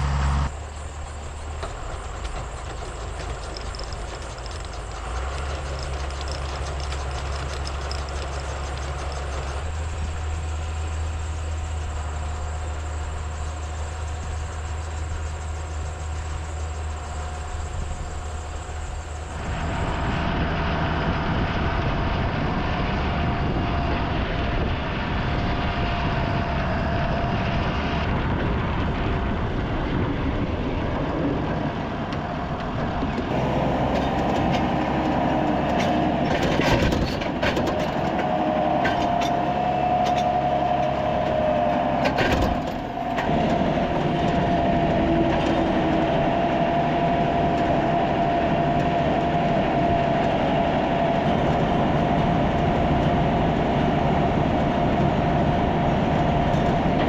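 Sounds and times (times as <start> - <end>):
harsh machine whine: 0.0 - 57.0
tractor engine running: 0.0 - 57.0.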